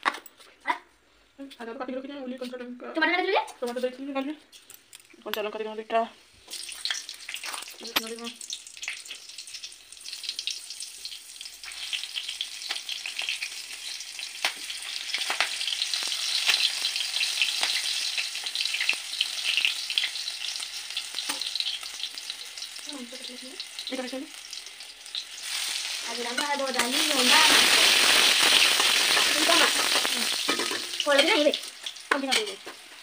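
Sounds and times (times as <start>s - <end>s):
hot oil sizzling in a wok: 5.4s - 33.0s
onions sizzling in oil: 5.4s - 33.0s.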